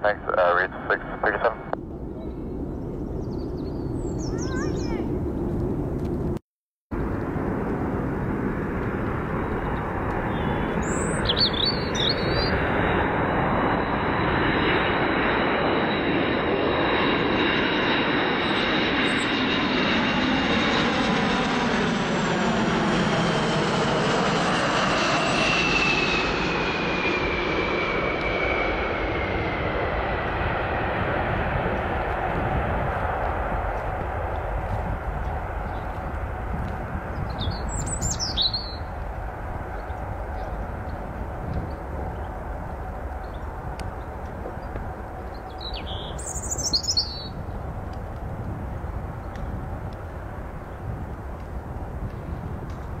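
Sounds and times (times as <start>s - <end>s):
jet engines roaring: 0.0s - 6.3s, 7.0s - 53.0s.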